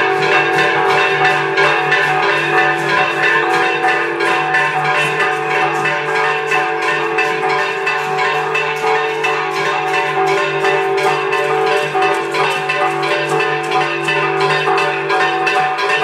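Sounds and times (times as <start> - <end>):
church bells pealing rapidly: 0.0 - 16.0.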